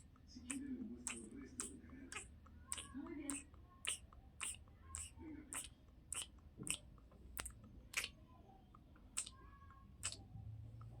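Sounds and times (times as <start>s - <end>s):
wet mouth clicks and smacks: 0.0s - 8.2s, 8.8s - 9.4s, 10.0s - 10.9s.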